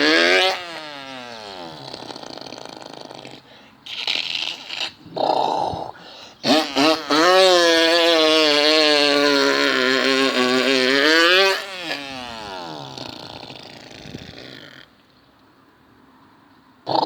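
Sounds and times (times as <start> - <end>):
man imitating revving engine: 0.0 - 14.9.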